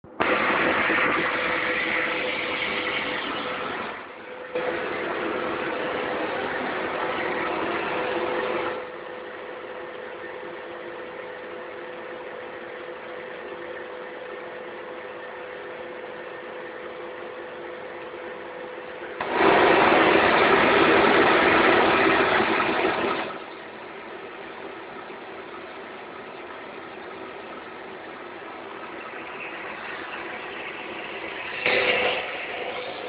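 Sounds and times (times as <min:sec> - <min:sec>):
vacuum cleaner running: 0:00.1 - 0:23.7, 0:27.3 - 0:33.0.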